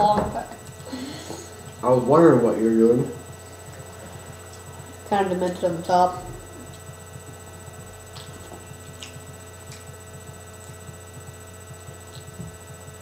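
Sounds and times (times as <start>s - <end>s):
electrical hum: 0.0s - 13.0s
fast low pulsing: 0.0s - 13.0s.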